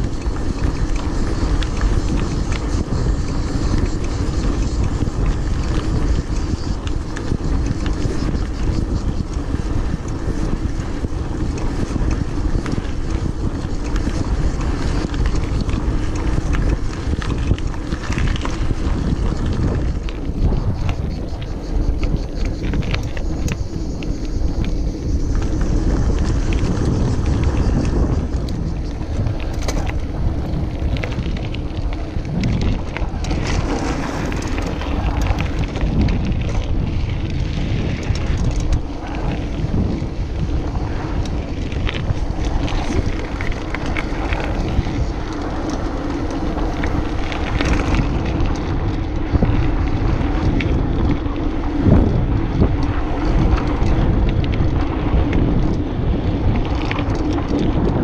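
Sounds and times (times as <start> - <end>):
bike tyres rumbling on road: 0.0 - 58.0
wind buffeting microphone: 0.0 - 58.0.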